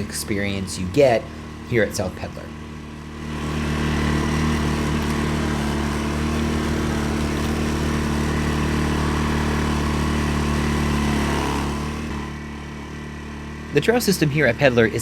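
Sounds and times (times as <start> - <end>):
atv engine under throttle: 0.0 - 15.0.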